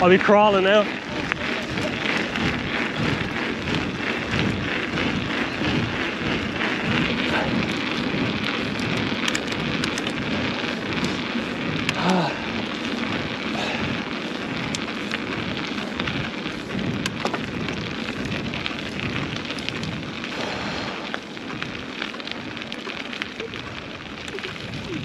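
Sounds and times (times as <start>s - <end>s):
bike clicks and knocks: 0.0s - 20.2s
tyres crackling over stones: 0.0s - 25.0s
wind noise on microphone: 0.0s - 25.0s.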